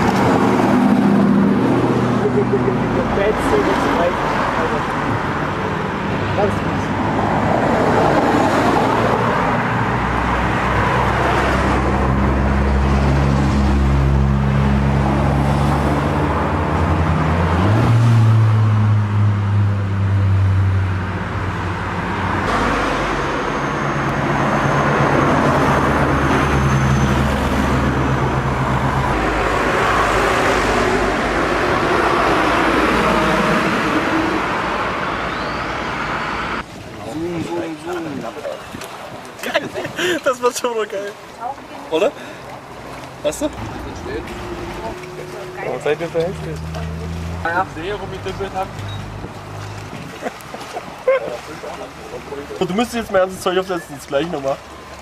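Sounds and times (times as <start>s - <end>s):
car engines in traffic: 0.0s - 37.6s, 41.2s - 55.0s.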